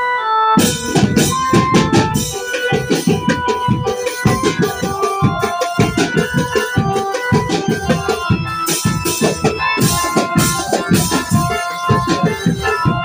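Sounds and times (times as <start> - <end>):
electronic keyboard melody: 0.0 - 13.0
quick steady drum beat: 0.6 - 13.0.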